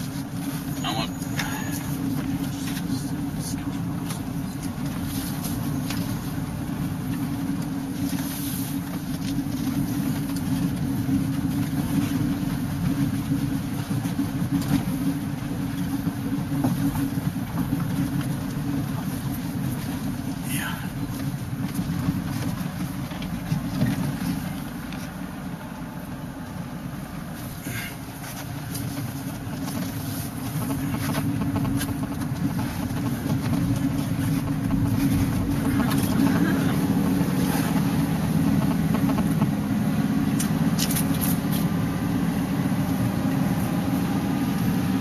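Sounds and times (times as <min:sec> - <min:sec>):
van engine and road noise: 0:00.0 - 0:45.0.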